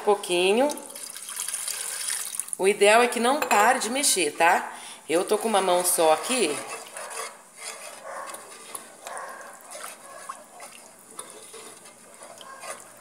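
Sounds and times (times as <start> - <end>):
wooden spoon stirring liquid: 0.2 - 2.5, 3.5 - 13.0.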